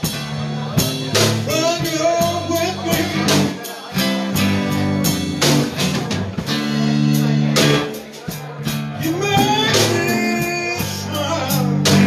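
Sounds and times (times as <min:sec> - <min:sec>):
drum kit strikes: 0:00.0 - 0:12.0
live blues band playing: 0:00.0 - 0:12.0.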